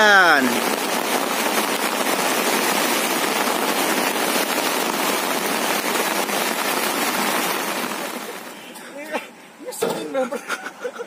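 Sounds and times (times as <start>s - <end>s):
heavy rain pelting down: 0.0s - 11.0s.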